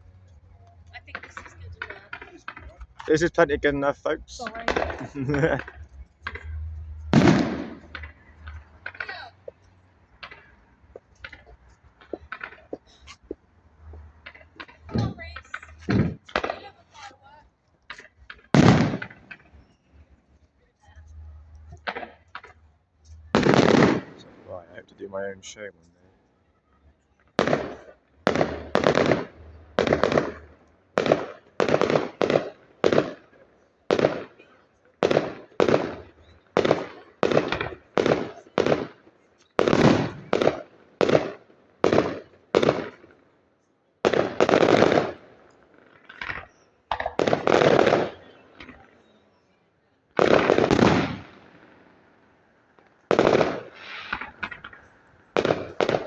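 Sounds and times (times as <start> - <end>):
fireworks bangs: 0.0 - 17.2, 17.9 - 19.8, 21.0 - 25.7, 27.3 - 43.2, 44.0 - 49.0, 50.2 - 52.0, 52.8 - 56.0.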